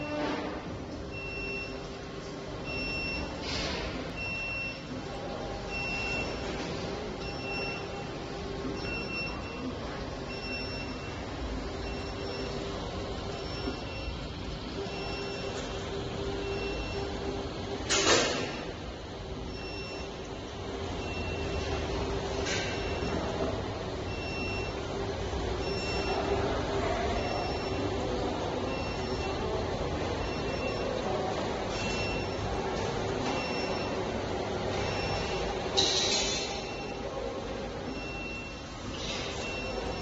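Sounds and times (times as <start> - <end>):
printer mechanical hum and hiss: 0.0 - 40.0
high tone of print carriage: 1.0 - 35.8.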